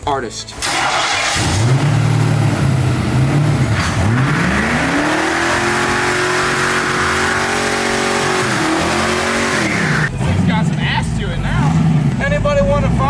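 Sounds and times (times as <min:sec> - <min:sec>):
car engine revving: 0:00.6 - 0:13.0.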